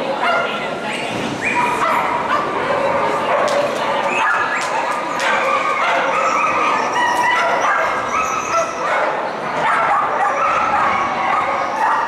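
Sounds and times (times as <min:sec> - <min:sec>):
dogs barking and yipping: 0:01.4 - 0:12.0.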